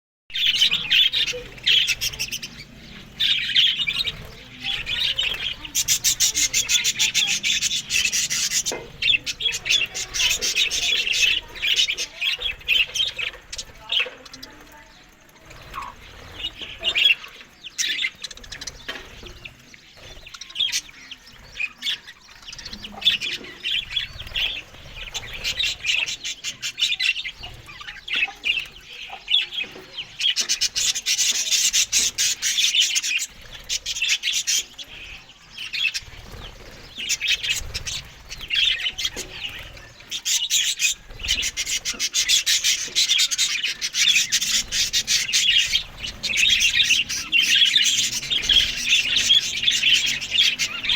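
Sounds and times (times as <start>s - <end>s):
budgerigars chattering and chirping: 0.3s - 50.9s.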